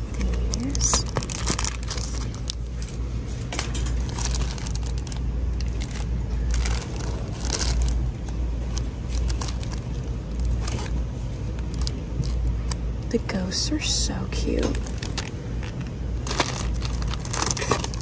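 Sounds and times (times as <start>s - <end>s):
plastic packs crinkling: 0.0s - 12.8s, 14.6s - 18.0s
low rumble: 0.0s - 18.0s.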